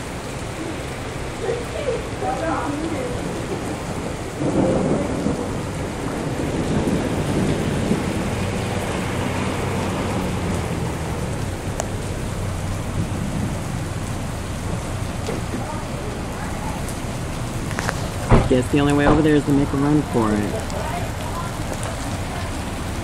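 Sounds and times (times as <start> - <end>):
car driving through water: 0.0 - 23.0
heavy rain on pavement: 0.0 - 23.0
low rumble: 0.0 - 23.0.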